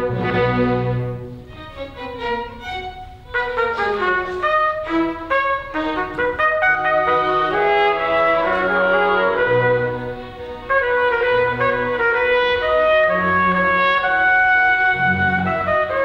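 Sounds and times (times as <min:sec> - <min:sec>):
brass: 0:00.0 - 0:01.7, 0:03.0 - 0:16.0
symphony orchestra playing: 0:00.0 - 0:16.0.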